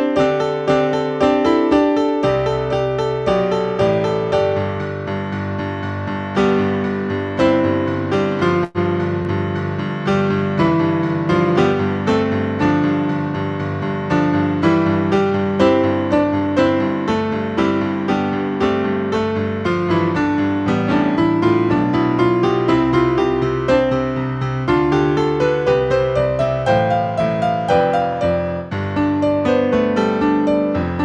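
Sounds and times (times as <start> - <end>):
solo piano: 0.0 - 31.0.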